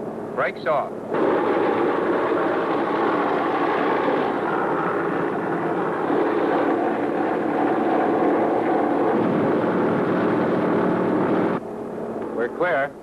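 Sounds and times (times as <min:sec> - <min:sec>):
aircraft radial engines droning: 0:00.0 - 0:13.0.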